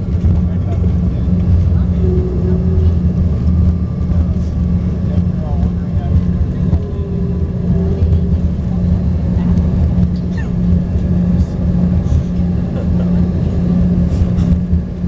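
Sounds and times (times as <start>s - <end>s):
jet cabin rumble and engine hum: 0.0s - 15.0s.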